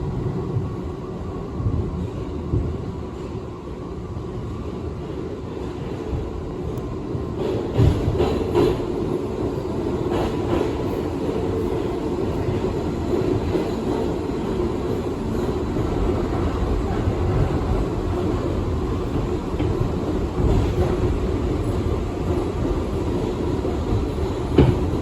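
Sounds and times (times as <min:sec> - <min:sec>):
subway train wheels rumbling on rails: 0:00.0 - 0:25.0.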